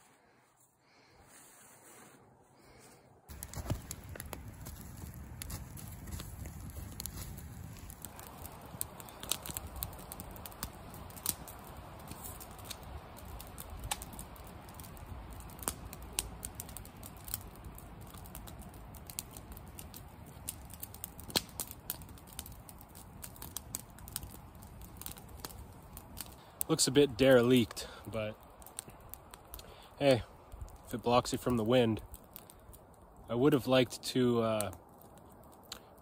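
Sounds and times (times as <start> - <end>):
campfire crackling and popping: 3.3 - 36.0.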